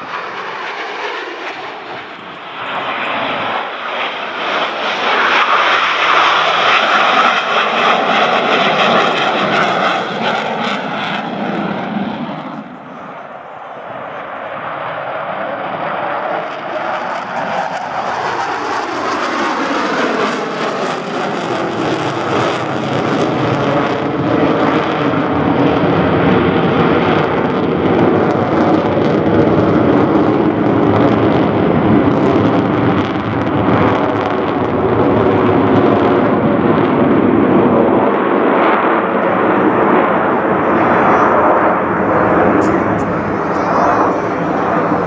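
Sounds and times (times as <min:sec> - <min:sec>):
jet roar: 0:00.0 - 0:45.0.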